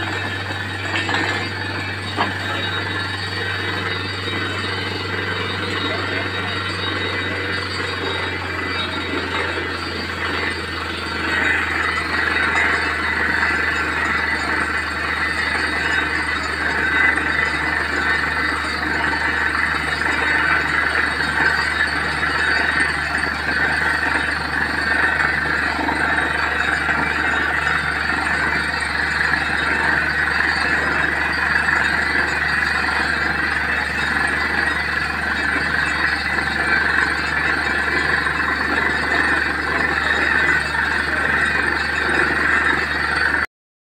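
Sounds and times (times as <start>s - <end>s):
drilling rig humming: 0.0s - 43.5s.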